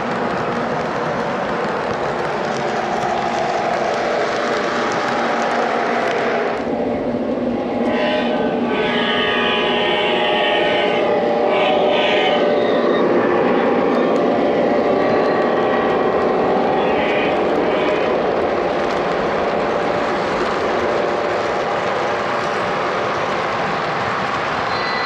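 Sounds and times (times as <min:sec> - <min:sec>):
wheels rumbling on track: 0:00.0 - 0:25.0.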